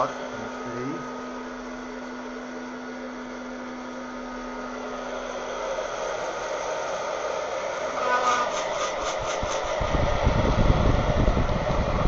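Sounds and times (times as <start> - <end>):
hot-air popper fan whooshing: 0.0 - 12.0.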